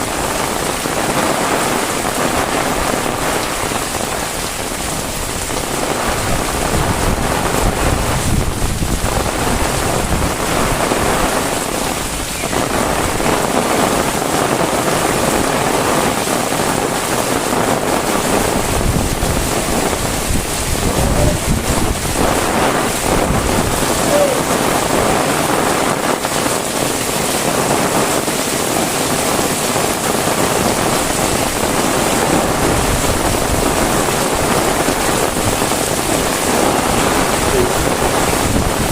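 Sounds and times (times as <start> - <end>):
heavy rain falling: 0.0 - 38.9
wind rumbling on microphone: 0.0 - 38.9.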